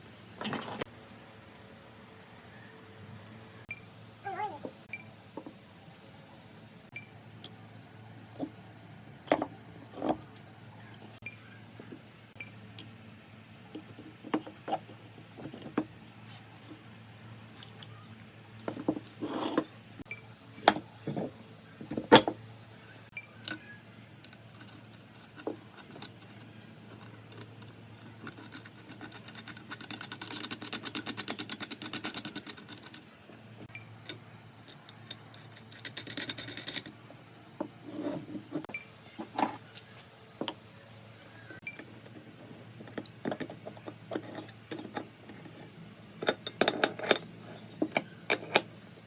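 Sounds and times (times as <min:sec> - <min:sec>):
faint steady hum: 0:00.0 - 0:49.0.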